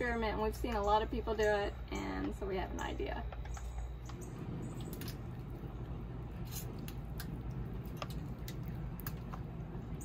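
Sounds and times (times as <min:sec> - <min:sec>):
low steady background rumble: 0:00.0 - 0:10.0.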